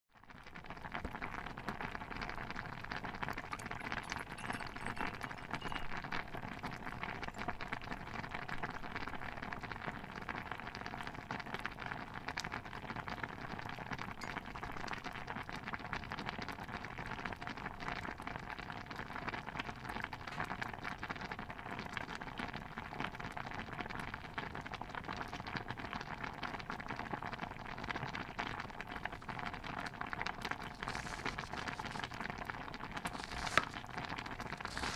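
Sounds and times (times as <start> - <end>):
stew bubbling in a pot: 0.1 - 34.9.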